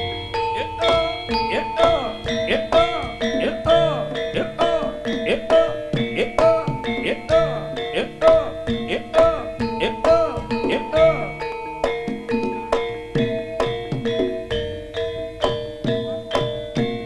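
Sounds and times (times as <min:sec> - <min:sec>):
hand drum strokes: 0:00.0 - 0:14.6
ringing gong-chime tones: 0:00.0 - 0:17.0.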